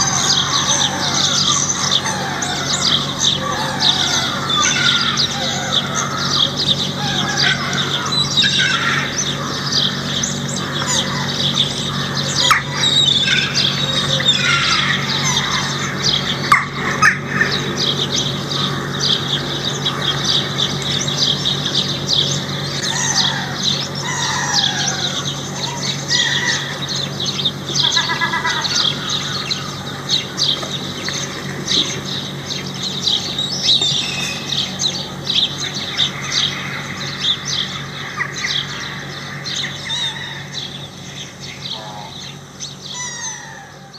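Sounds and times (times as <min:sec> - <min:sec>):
birds calling: 0:00.0 - 0:43.9
steady low hum: 0:00.0 - 0:43.9.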